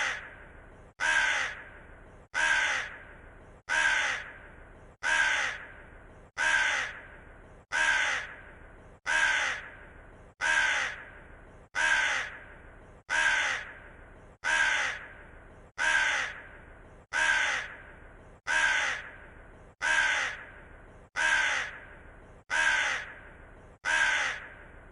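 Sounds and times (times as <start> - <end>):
raven cawing: 0.0 - 24.8.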